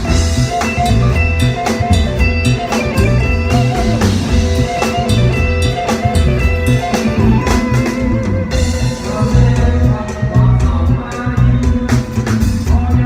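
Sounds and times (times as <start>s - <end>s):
bass backing: 0.0s - 13.0s
drum kit beat: 0.0s - 13.0s.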